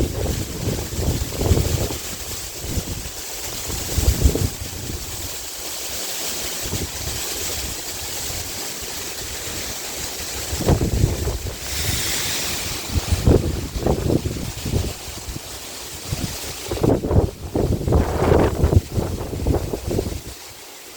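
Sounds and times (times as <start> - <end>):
wind buffeting microphone: 0.0 - 5.4, 6.6 - 20.4
wind rushing hiss: 0.0 - 20.9.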